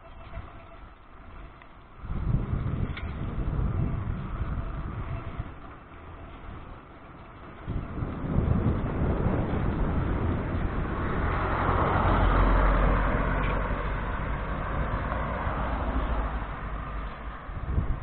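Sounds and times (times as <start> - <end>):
road vehicle rumble and hiss: 0.0 - 18.0.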